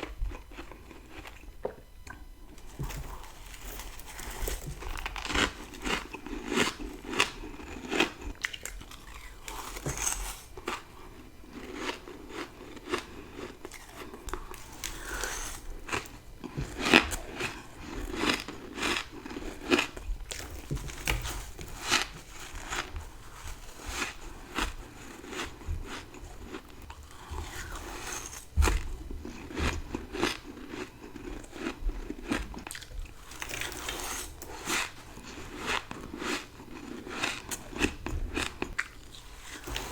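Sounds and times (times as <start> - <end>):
person crunching frost: 2.6 - 39.9.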